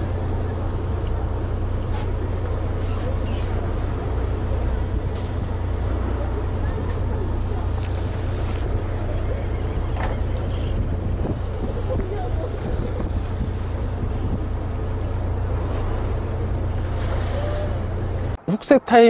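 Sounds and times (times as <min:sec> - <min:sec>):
wind buffeting microphone: 0:00.0 - 0:18.4
sea washing: 0:00.0 - 0:18.5
boat engine rumble: 0:00.0 - 0:19.0.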